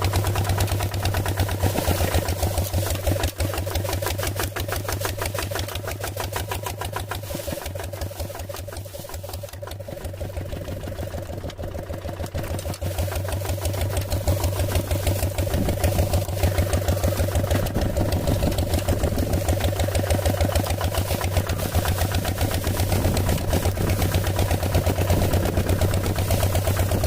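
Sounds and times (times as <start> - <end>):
small engine chugging: 0.0 - 27.0.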